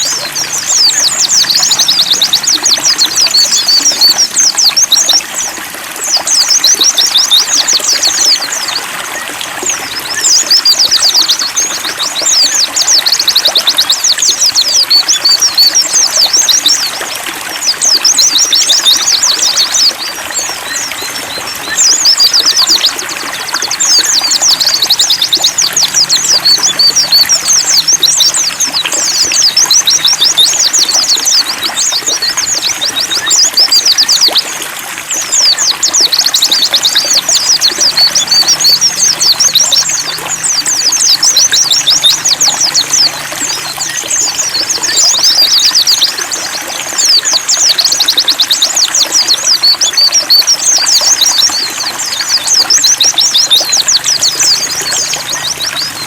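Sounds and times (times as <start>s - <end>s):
birds twittering song: 0.0s - 56.0s
trickle of running water: 0.0s - 56.0s.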